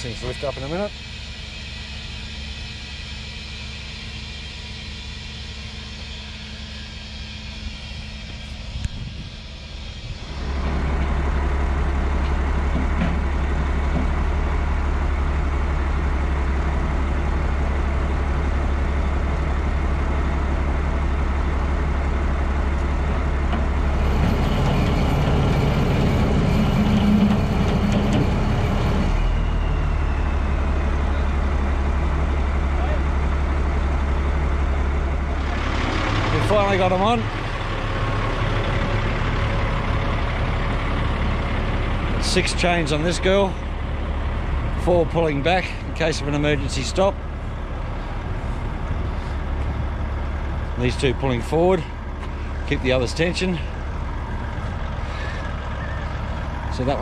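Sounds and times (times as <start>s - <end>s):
diesel truck engine running: 0.0s - 57.0s
hiss and rumble: 0.0s - 57.0s.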